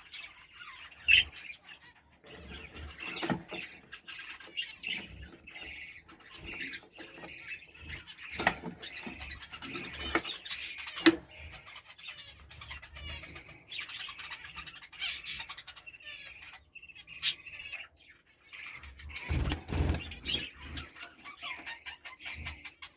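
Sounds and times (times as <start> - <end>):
lovebirds chirping: 0.0 - 22.9.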